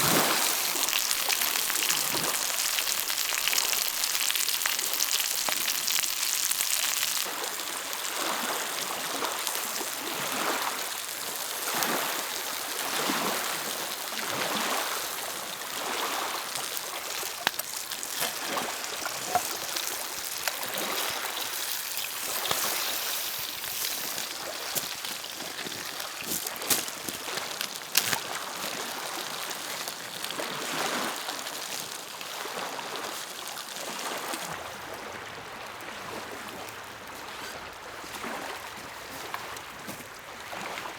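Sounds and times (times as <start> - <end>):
lake waves lapping shore: 0.0 - 40.9.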